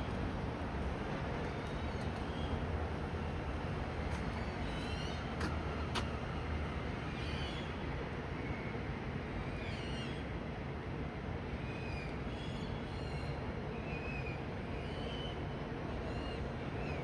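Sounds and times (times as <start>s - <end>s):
city hum: 0.0s - 17.0s.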